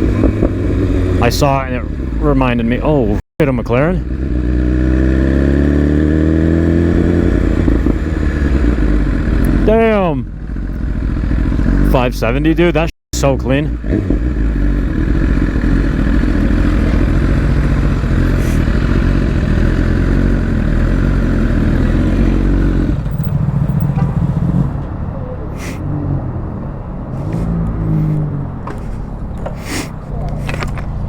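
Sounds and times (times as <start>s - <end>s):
motorcycle engine running: 0.0s - 12.2s, 13.2s - 25.1s, 27.2s - 31.0s.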